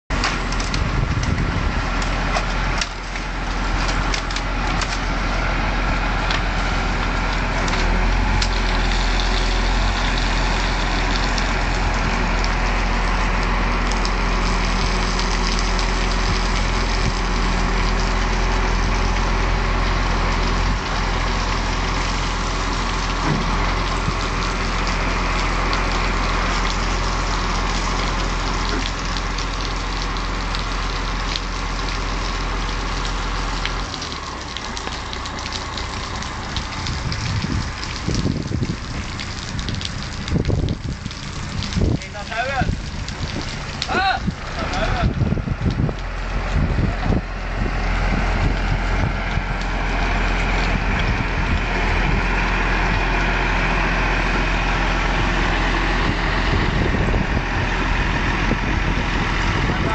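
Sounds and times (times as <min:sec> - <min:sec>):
diesel crane engine humming: 0:00.1 - 0:59.9.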